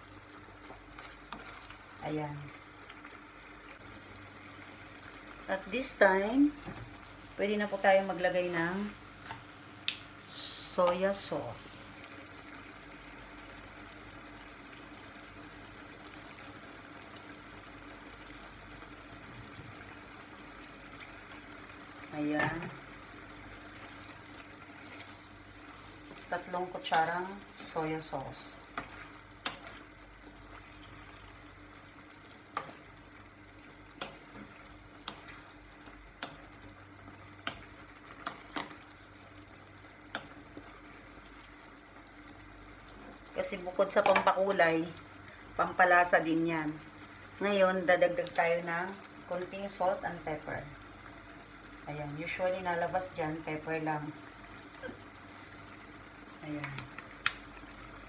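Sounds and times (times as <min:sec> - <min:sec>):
meat simmering in pan: 0:00.0 - 0:58.0.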